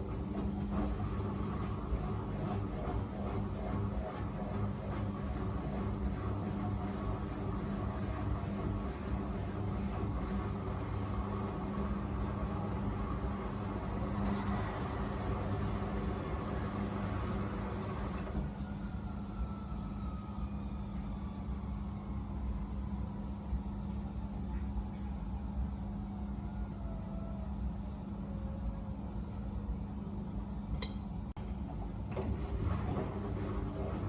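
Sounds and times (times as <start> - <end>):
washing machine running: 0.0 - 34.0.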